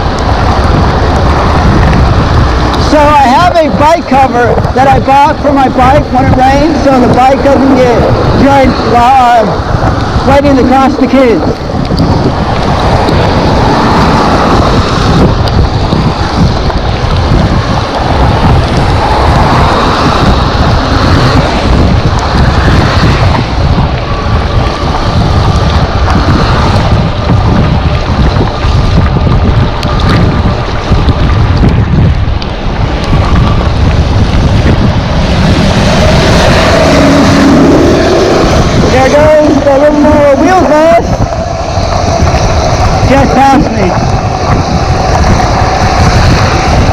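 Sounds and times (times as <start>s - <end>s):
tyres hissing on wet road: 0.0s - 31.4s, 32.4s - 46.9s
wind buffeting microphone: 0.0s - 46.9s.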